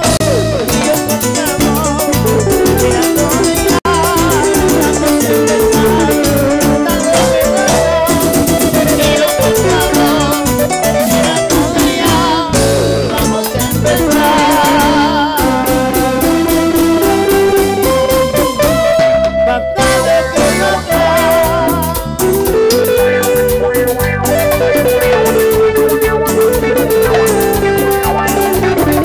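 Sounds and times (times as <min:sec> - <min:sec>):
electric guitar melody: 0:00.0 - 0:29.0
live band playing: 0:00.0 - 0:29.0.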